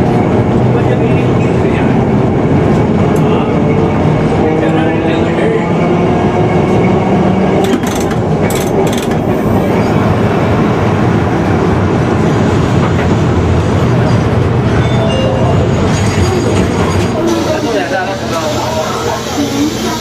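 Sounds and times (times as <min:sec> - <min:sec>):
tram motor and wheels on rails: 0:00.0 - 0:20.0.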